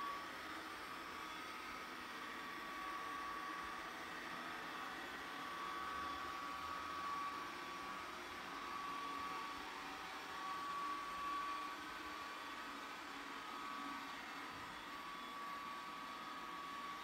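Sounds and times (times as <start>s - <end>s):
robot vacuum whirring on tiles: 0.0s - 17.0s.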